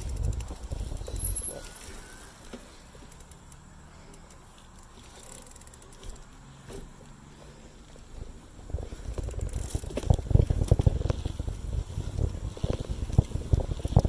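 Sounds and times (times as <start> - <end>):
bicycle freewheel ticking: 0.0 - 6.4, 8.6 - 14.0.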